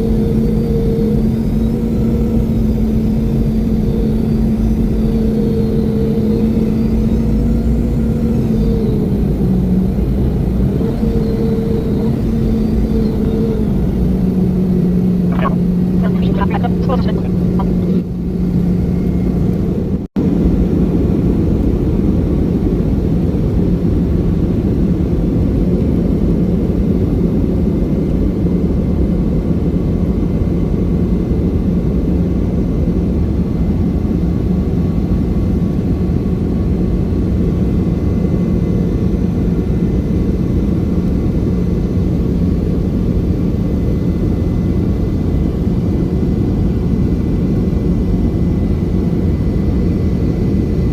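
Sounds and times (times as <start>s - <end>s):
airliner cabin engine noise: 0.0s - 50.9s.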